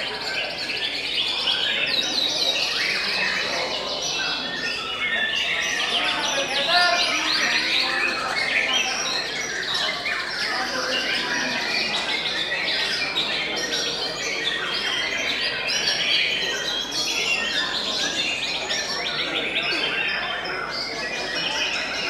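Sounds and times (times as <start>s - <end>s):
many birds singing: 0.0s - 22.0s.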